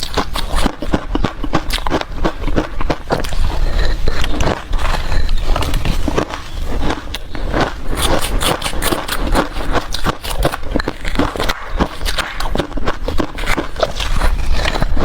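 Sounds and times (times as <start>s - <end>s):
ice crunching in mouth: 0.0s - 15.0s.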